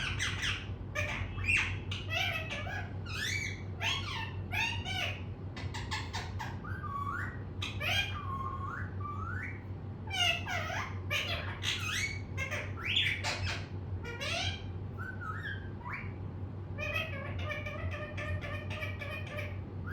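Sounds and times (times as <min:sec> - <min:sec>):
parrot squawking and whistling: 0:00.0 - 0:16.2, 0:16.8 - 0:19.9
steady low hum: 0:00.0 - 0:19.9.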